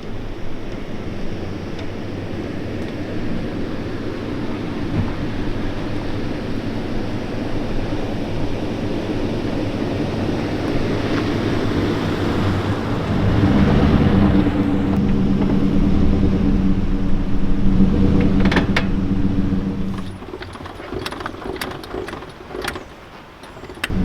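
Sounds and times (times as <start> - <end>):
motor vehicle engine humming: 0.0 - 24.0.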